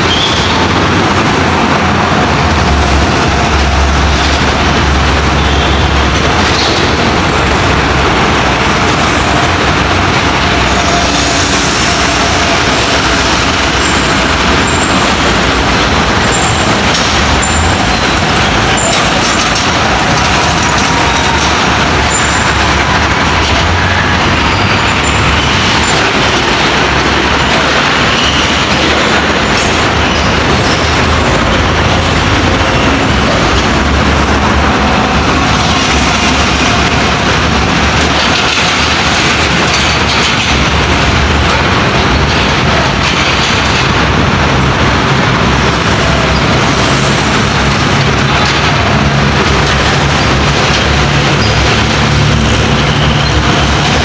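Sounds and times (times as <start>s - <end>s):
heavy trucks passing: 0.0s - 54.0s.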